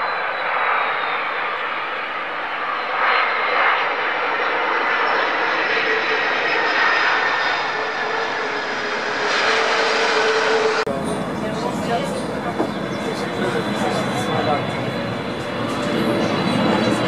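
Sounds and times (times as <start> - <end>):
jet engine roar with whine: 0.0 - 17.0.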